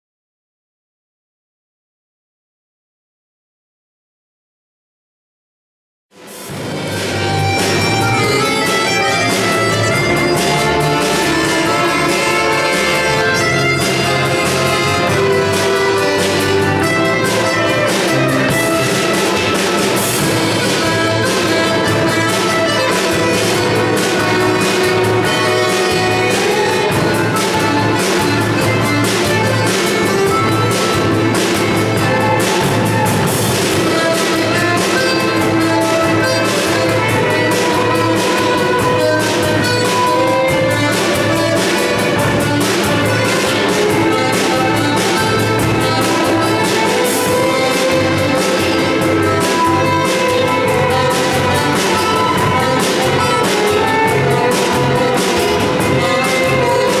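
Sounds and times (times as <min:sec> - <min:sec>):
drum kit beat: 0:06.2 - 0:57.0
guitars: 0:06.3 - 0:57.0
accordion melody: 0:06.5 - 0:57.0
violin melody: 0:06.8 - 0:57.0.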